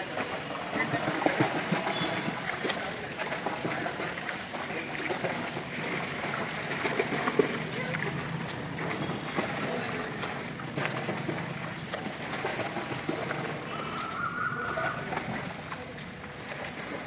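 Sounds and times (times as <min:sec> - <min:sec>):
pool water sloshing and splashing: 0:00.0 - 0:17.0.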